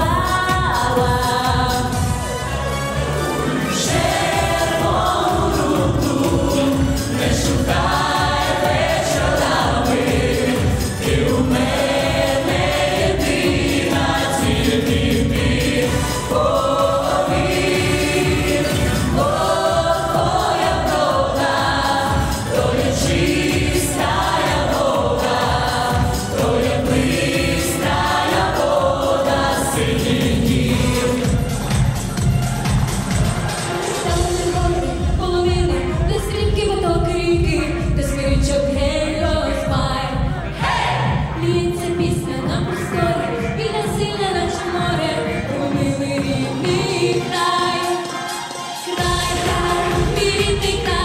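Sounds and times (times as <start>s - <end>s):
group singing pop: 0.0s - 2.6s, 3.3s - 51.0s
backing music with steady beat: 0.0s - 51.0s.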